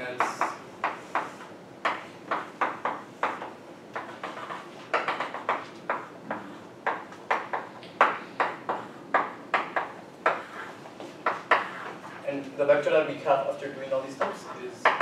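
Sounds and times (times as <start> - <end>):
chalk tapping and scratching: 0.2 - 6.1, 6.9 - 15.0.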